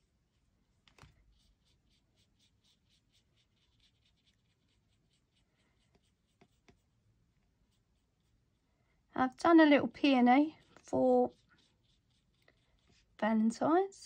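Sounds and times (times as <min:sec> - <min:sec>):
brush pen strokes on card: 0:00.0 - 0:14.0.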